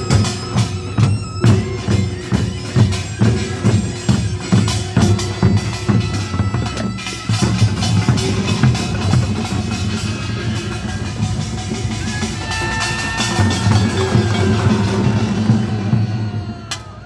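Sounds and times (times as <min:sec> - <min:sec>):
drums and gongs beating: 0:00.0 - 0:17.0
shawm reedy melody: 0:00.0 - 0:17.0.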